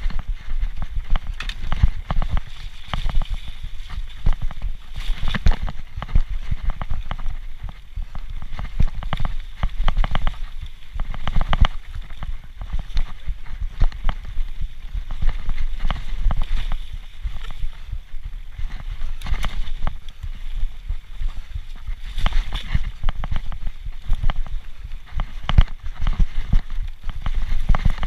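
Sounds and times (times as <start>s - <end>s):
bike knocking and rattling: 0.0s - 28.0s
steady low rumble: 0.0s - 28.0s.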